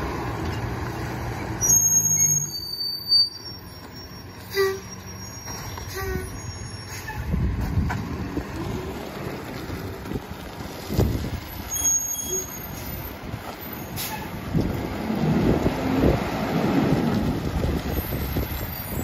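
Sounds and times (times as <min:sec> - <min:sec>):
garbage truck diesel engine: 0:00.0 - 0:19.0.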